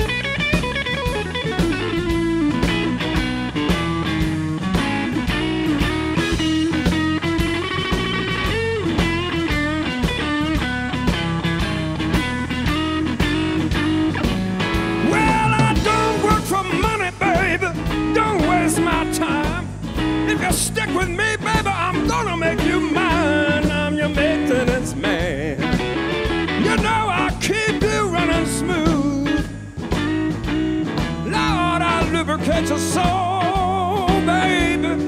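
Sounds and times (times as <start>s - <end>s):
bass: 0.0s - 35.0s
lead guitar line bending: 0.0s - 35.0s
steady drum beat: 0.0s - 35.0s.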